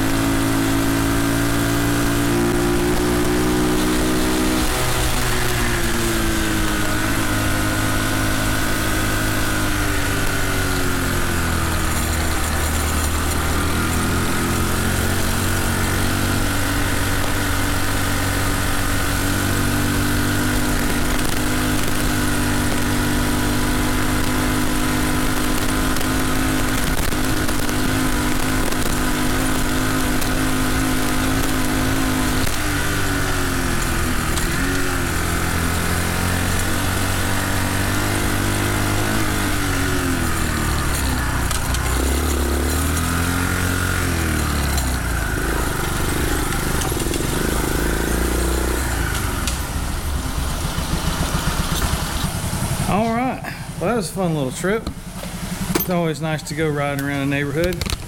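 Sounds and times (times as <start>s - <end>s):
small motorbike engine running: 0.0s - 58.0s.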